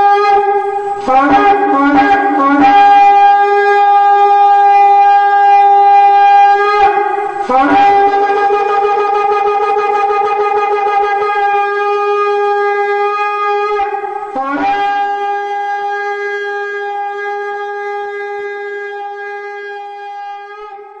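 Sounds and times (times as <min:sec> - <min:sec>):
shofar blowing: 0:00.0 - 0:21.0.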